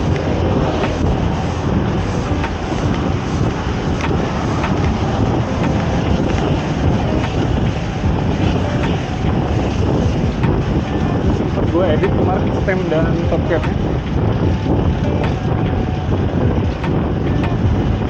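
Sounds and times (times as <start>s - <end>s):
road and traffic noise: 0.0s - 18.0s
wind rumble on microphone: 0.0s - 18.0s.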